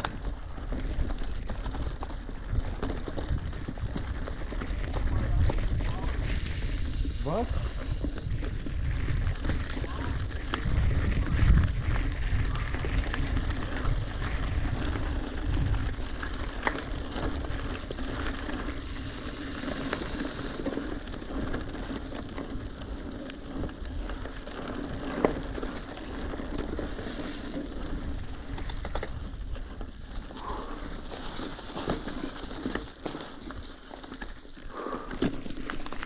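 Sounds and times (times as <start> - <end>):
wind rumble on microphone: 0.0 - 31.7
bike clicking and rattling: 0.0 - 36.0
bike tyre noise on dirt: 0.0 - 36.0.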